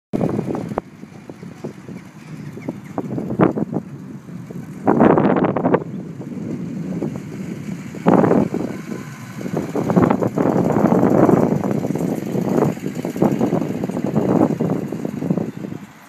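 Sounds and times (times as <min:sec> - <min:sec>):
petrol engine running with surges: 0:00.2 - 0:16.0.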